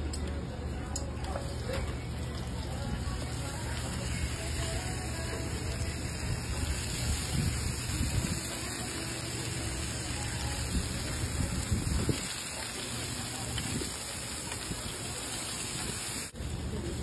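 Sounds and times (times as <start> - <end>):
omelette sizzling on a griddle: 1.3 - 17.0.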